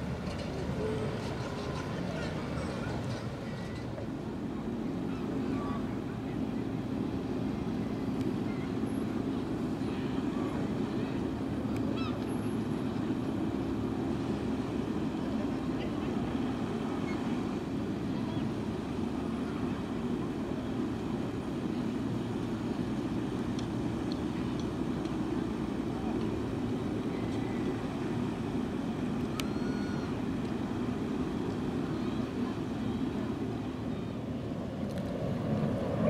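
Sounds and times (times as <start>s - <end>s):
ship engines rumbling: 0.0s - 36.0s.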